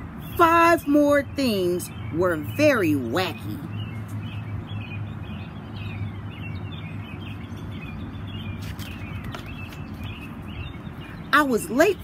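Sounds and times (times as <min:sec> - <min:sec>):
low outdoor hum: 0:00.0 - 0:12.0
small birds chirping: 0:00.0 - 0:12.0.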